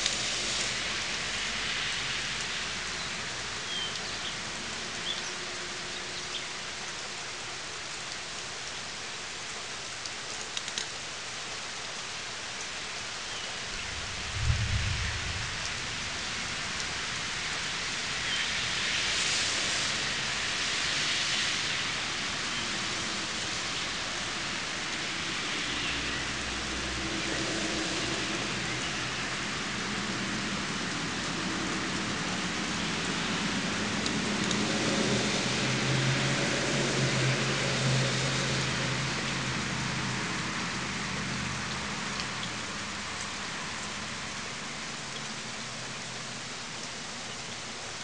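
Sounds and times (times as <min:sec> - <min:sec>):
rain falling on mulch and plants: 0:00.0 - 0:48.0.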